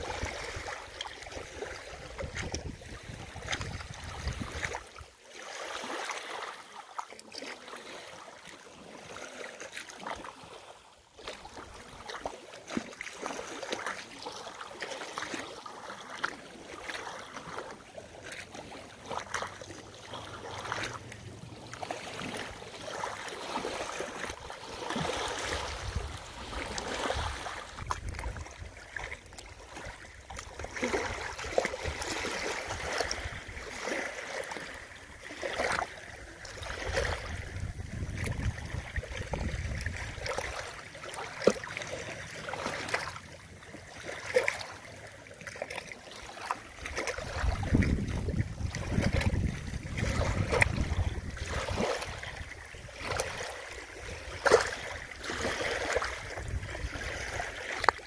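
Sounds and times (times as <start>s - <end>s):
waves lapping on pebble beach: 0.0s - 58.0s.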